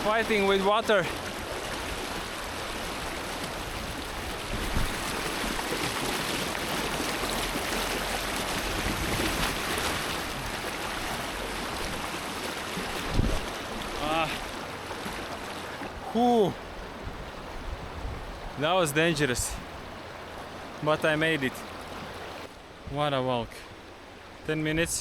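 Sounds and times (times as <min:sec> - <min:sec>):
mountain river rushing: 0:00.0 - 0:25.0.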